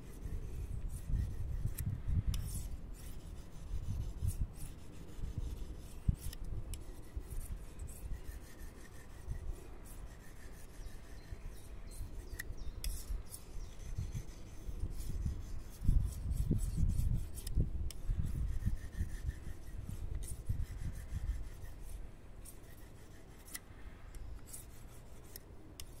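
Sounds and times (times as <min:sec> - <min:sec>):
knife scraping on whetstone: 0:00.1 - 0:26.0.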